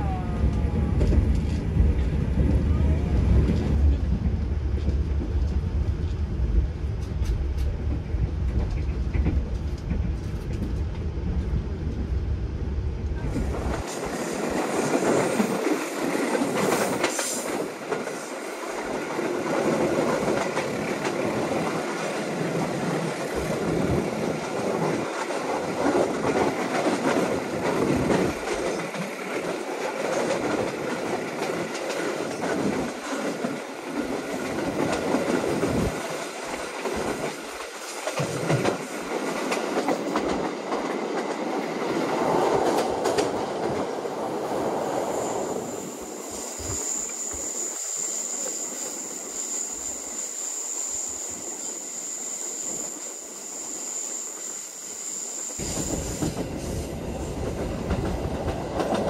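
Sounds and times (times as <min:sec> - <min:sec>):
train deep rumble: 0:00.0 - 0:47.5, 0:55.6 - 0:59.0
bright noisy train running: 0:00.0 - 0:59.0.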